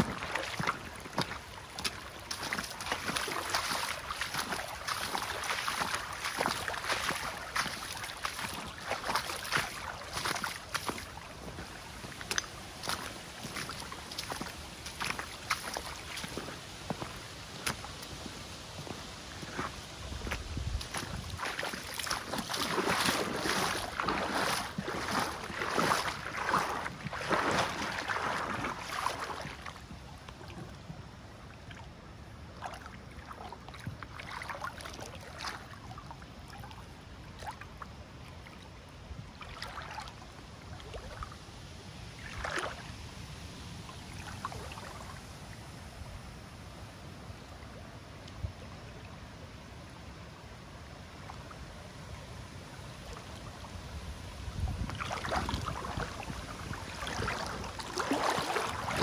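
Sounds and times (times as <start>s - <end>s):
water splashing and lapping: 0.0s - 59.0s.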